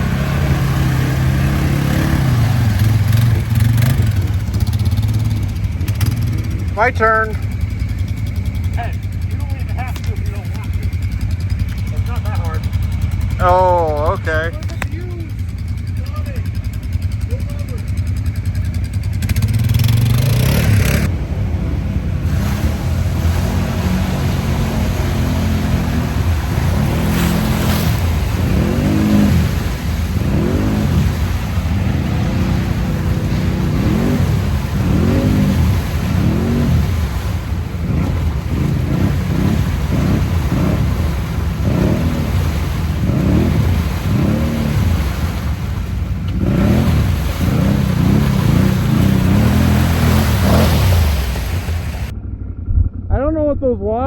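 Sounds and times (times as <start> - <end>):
atv engine revving: 0.0 - 53.5.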